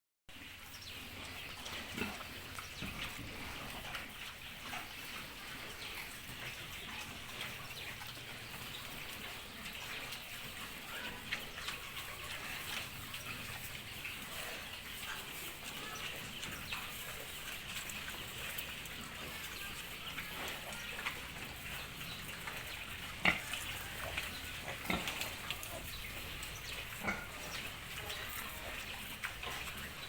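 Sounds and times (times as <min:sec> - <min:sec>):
piglets grunting and squeaking: 0:01.1 - 0:30.0.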